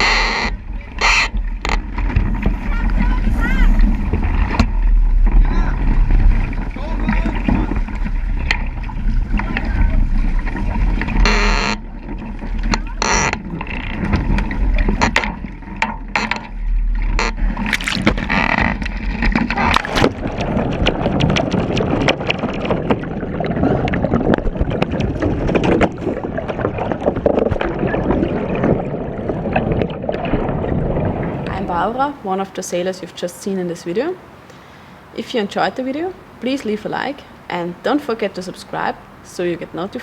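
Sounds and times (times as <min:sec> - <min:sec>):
wind rumble on microphone: 0:00.0 - 0:32.2
water rushing and splashing: 0:00.0 - 0:32.8, 0:33.9 - 0:40.0.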